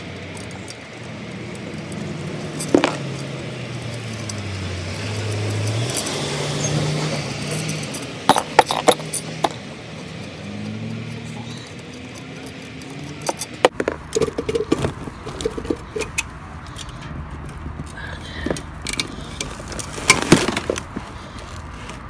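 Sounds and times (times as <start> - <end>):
tools clinking on metal: 0.2 - 21.6.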